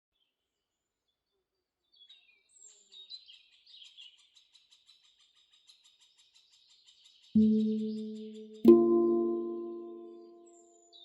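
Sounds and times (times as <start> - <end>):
faint birdsong: 1.1 - 11.0.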